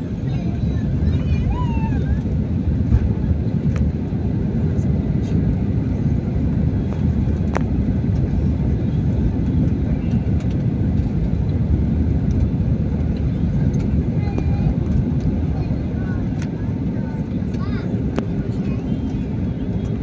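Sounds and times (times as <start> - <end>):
jet engine rumble in cabin: 0.0 - 20.0.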